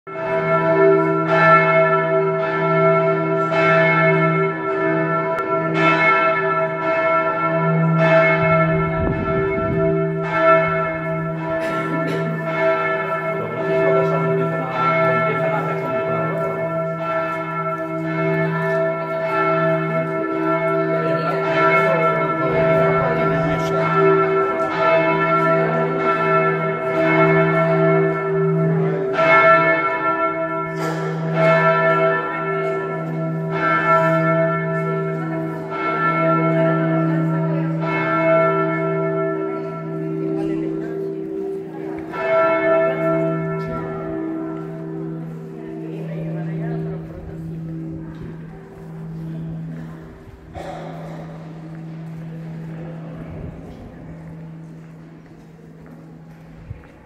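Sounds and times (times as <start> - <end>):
church bells ringing: 0.1 - 57.0.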